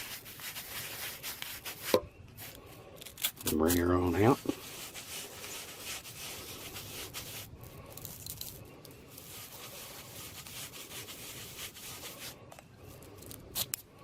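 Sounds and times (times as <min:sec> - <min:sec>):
rod scratching against brush: 0:00.0 - 0:13.8.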